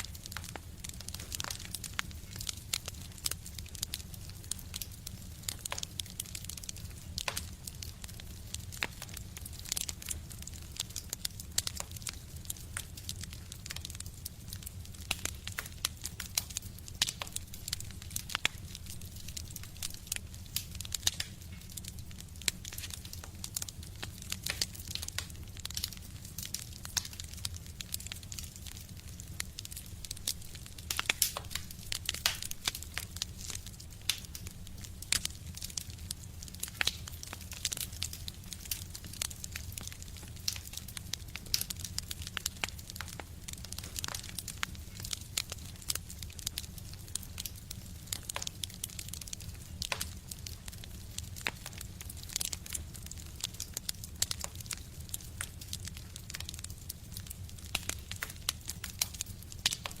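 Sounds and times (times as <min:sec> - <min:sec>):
fire low rumble: 0:00.0 - 1:00.0
wood fire crackling: 0:00.0 - 1:00.0.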